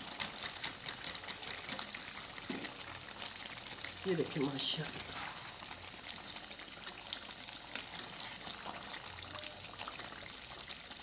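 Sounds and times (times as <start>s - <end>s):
curry bubbling and sizzling: 0.0s - 11.0s.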